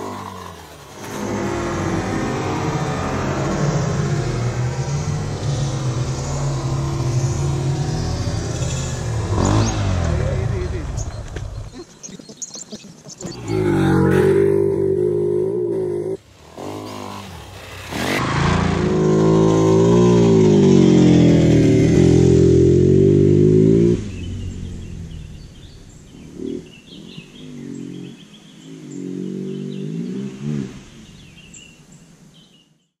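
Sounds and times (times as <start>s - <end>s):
motorcycle engine revving: 0.0s - 11.9s, 13.3s - 31.7s
birds chirping: 0.0s - 18.2s, 18.9s - 33.0s.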